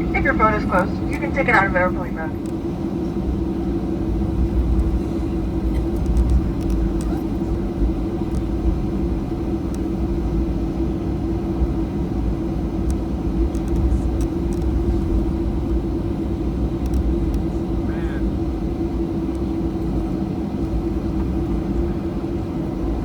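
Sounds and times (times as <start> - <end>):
airplane engines idling rumble: 0.0 - 23.0
constant hum: 0.0 - 23.0.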